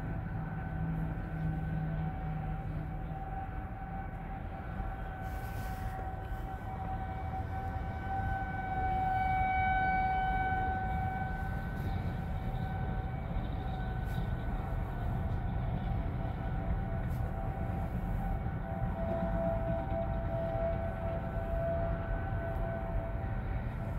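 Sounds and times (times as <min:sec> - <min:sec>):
warning siren steady tone: 0:00.0 - 0:23.9.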